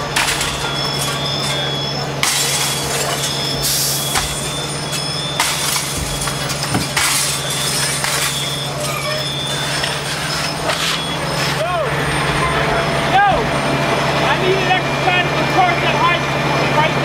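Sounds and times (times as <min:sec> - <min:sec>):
fire engine droning: 0:00.0 - 0:17.0.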